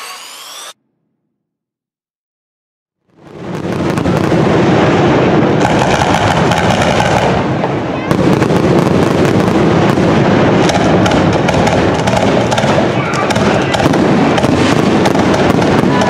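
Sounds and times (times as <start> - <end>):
rapid crackling of fireworks: 3.0 - 16.0.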